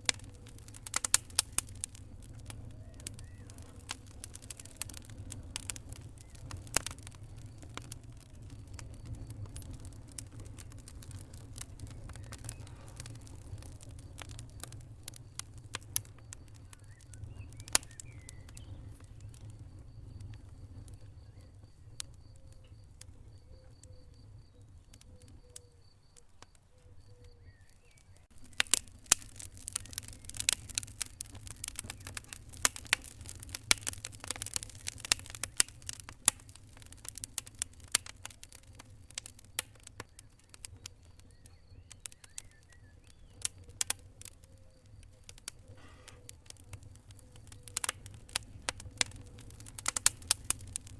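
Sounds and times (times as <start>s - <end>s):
low rumble of flames: 0.0s - 50.9s
wood fire crackling and popping: 0.0s - 50.9s.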